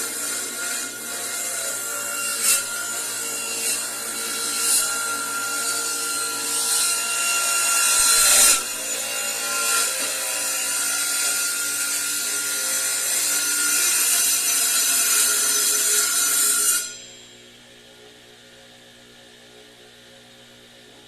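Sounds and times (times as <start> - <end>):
power tool cutting wood: 0.0 - 17.0.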